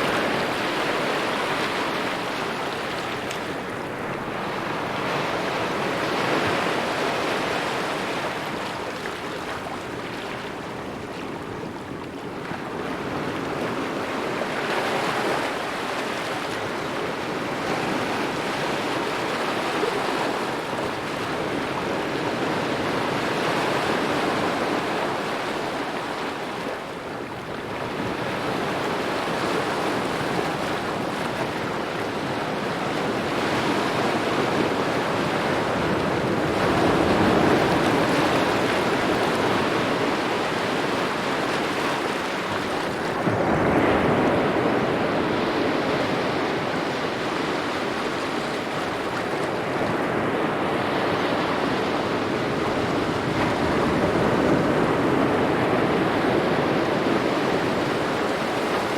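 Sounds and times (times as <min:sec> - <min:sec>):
small waves lapping at shore: 0:00.0 - 0:58.9.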